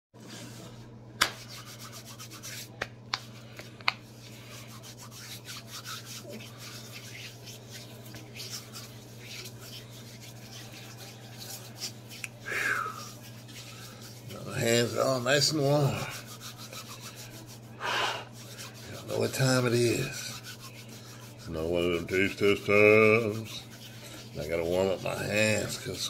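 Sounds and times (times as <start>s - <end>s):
low steady hum: 0.2s - 26.0s
hands rubbing together: 1.2s - 26.0s.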